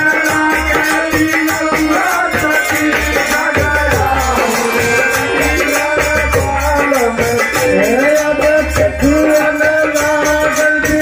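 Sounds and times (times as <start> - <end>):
hand drum beating: 0.0 - 11.0
harmonium: 0.0 - 11.0
men singing: 0.0 - 11.0
small hand cymbals jingling: 0.0 - 11.0.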